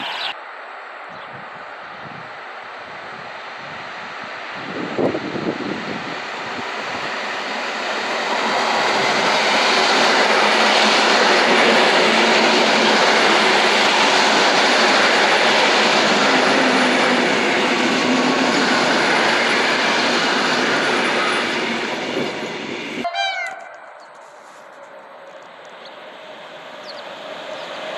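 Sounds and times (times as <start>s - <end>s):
passenger train running past: 0.0s - 27.9s.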